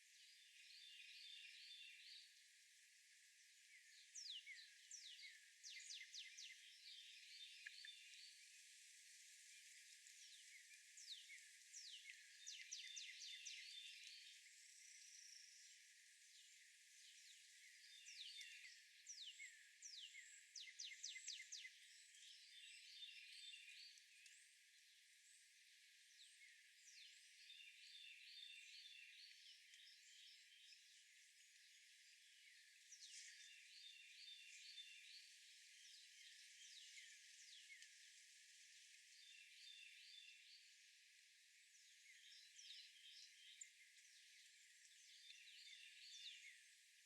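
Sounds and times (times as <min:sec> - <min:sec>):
steady outdoor hiss: 0:00.0 - 0:47.0.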